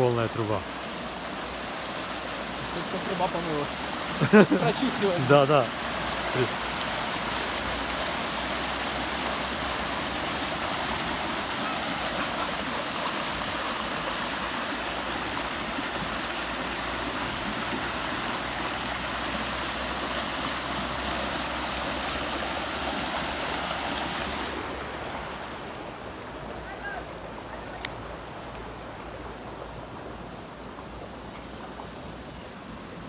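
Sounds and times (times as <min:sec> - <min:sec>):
water rushing from culvert pipe: 0:00.0 - 0:33.0.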